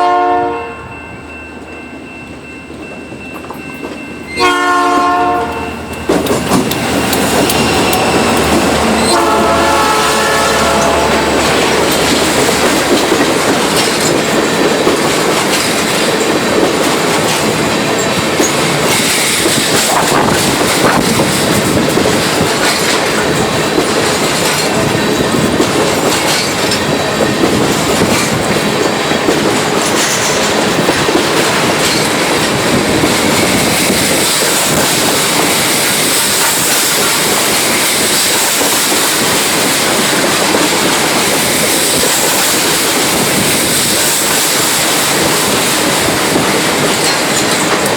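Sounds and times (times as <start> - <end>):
train wheels clattering on rails: 1.6 - 47.9.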